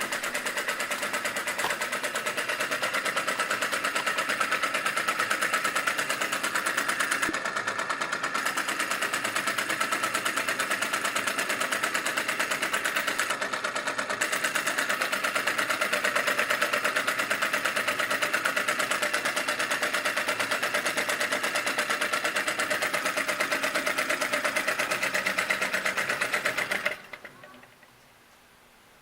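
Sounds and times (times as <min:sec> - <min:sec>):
model engine popping: 0:00.0 - 0:28.0.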